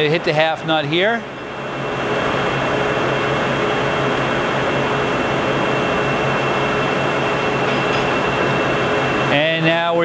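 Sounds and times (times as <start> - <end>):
lathe machine hum: 0.0 - 10.0.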